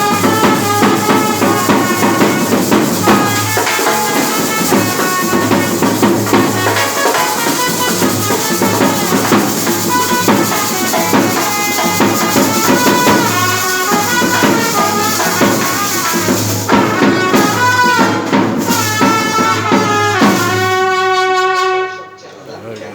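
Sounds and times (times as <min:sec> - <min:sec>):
jingling rattle percussion: 0:00.0 - 0:20.9
drums: 0:00.0 - 0:21.9
reedy wind melody: 0:00.0 - 0:22.0
brass: 0:00.0 - 0:22.3.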